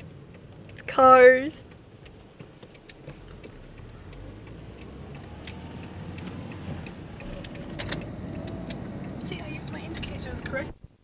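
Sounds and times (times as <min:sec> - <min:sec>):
car engine and road rumble: 0:00.0 - 0:11.0
turn signal ticking: 0:00.0 - 0:11.0.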